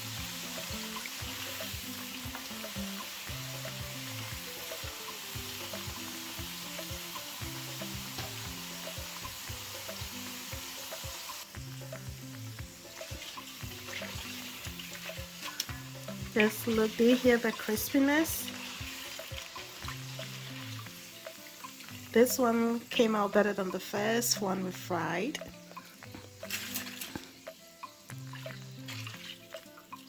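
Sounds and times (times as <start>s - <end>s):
oil crackling and popping: 0.0s - 22.3s, 25.4s - 30.0s
plantains deep-frying in oil: 0.0s - 30.0s.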